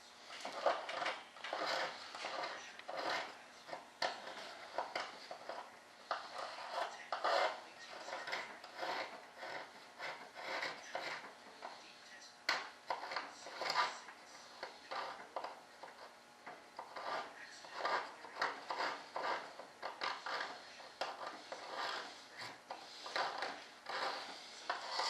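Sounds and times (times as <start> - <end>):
rubbing and scraping strokes: 0.0 - 25.0.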